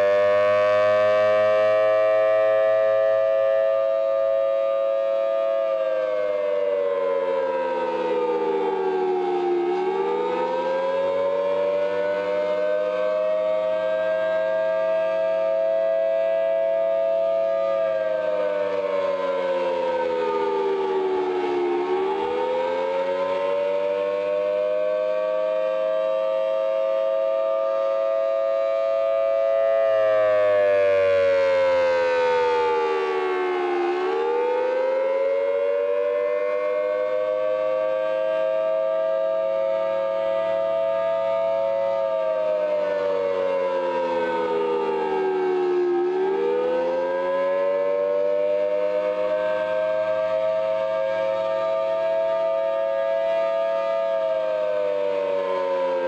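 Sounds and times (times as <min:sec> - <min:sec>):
outdoor siren wailing: 0:00.0 - 0:56.0.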